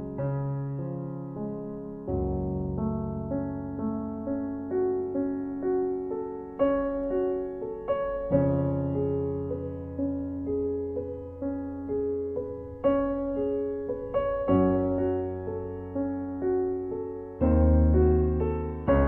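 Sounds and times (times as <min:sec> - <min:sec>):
slow soft piano music: 0:00.0 - 0:19.0.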